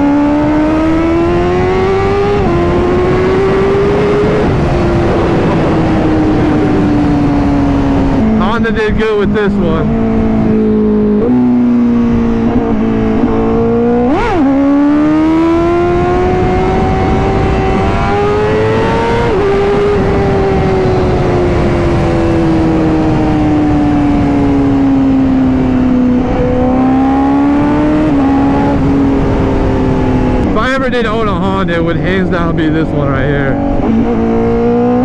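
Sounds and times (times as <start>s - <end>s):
motorcycle engine accelerating: 0.0s - 35.0s
wind noise: 0.0s - 35.0s.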